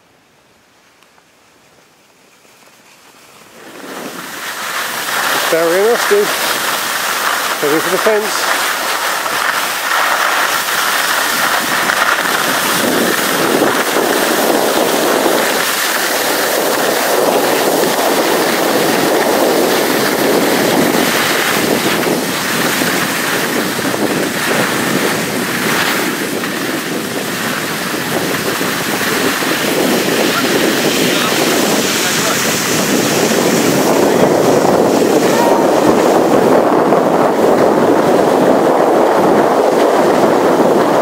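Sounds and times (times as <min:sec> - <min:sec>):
skis sliding over snow: 0:01.6 - 0:41.0
wind on microphone: 0:03.4 - 0:41.0.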